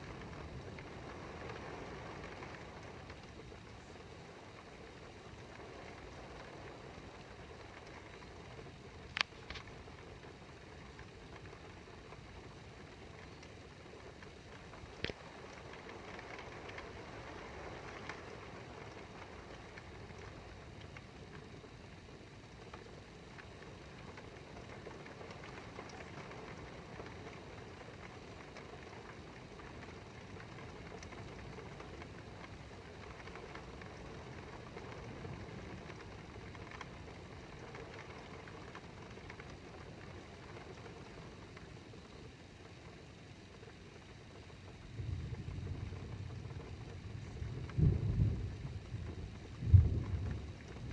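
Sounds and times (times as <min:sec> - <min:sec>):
low steady rumble: 0:00.0 - 0:50.9
steady rain: 0:00.0 - 0:50.9.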